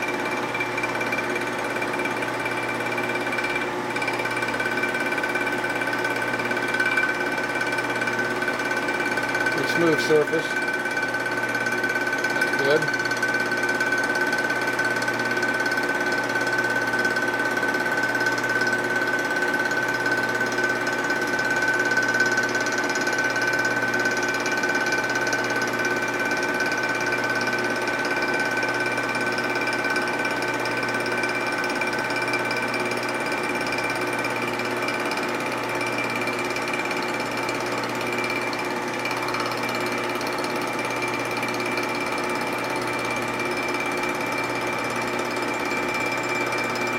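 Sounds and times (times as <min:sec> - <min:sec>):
milling machine whining: 0:00.0 - 0:46.9.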